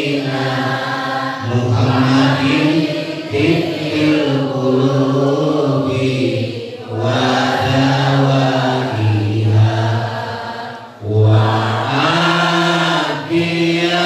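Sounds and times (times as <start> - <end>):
man chanting into microphone: 0.0 - 0.8, 1.4 - 10.2, 11.0 - 14.0.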